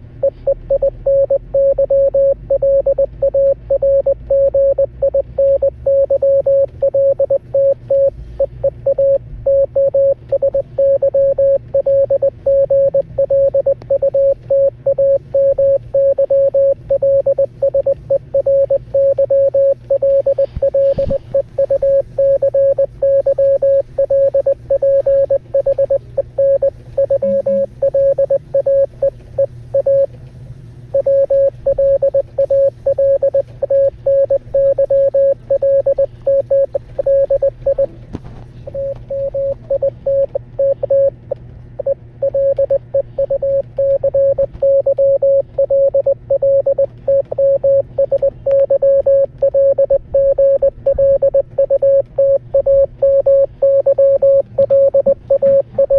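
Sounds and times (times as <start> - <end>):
morse code beeps: 0.2 - 30.1, 30.9 - 37.9, 38.7 - 41.2, 41.8 - 55.9.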